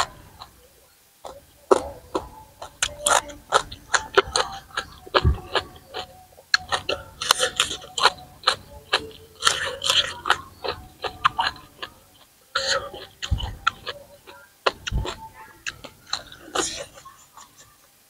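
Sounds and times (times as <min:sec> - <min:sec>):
crunching and chewing: 0:00.0 - 0:17.9.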